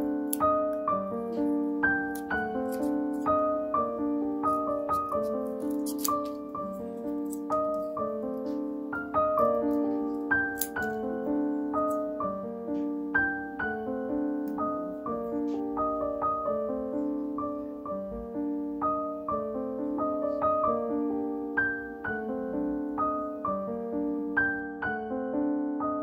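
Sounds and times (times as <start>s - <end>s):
gentle piano melody: 0.0s - 26.0s.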